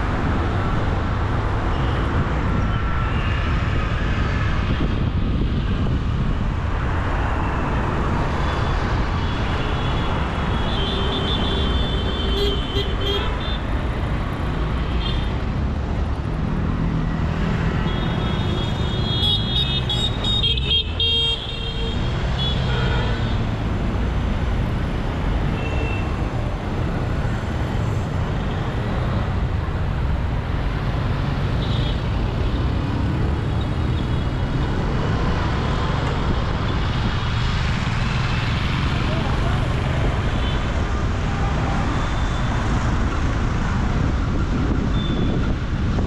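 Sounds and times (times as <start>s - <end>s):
traffic rumble of engines and tyres: 0.0s - 46.0s.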